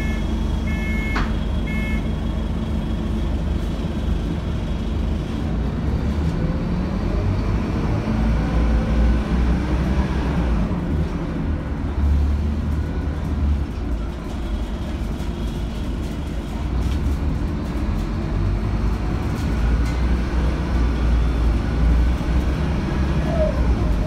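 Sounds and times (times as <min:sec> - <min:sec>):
bus diesel engine droning: 0:00.0 - 0:24.0
road noise: 0:00.0 - 0:24.0.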